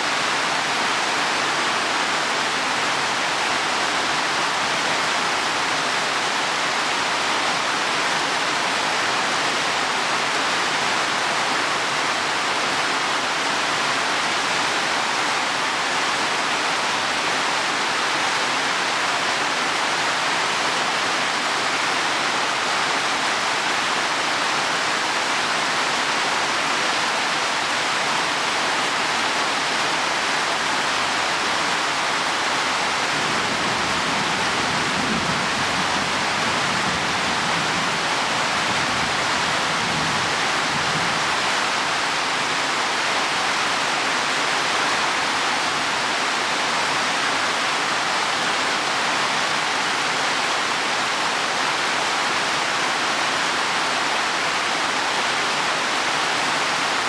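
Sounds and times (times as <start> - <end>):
heavy rain on leaves: 0.0 - 57.0.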